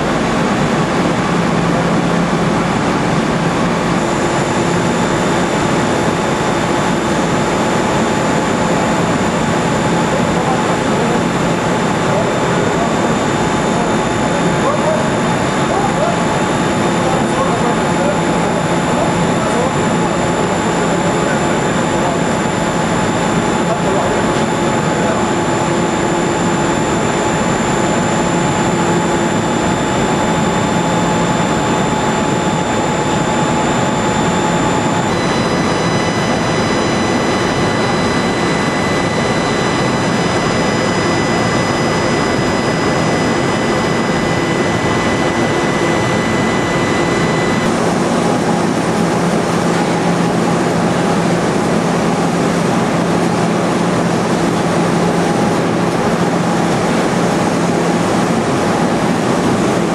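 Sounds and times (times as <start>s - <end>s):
motors and pumps humming: 0.0s - 59.9s
thin steady whines: 0.0s - 59.9s.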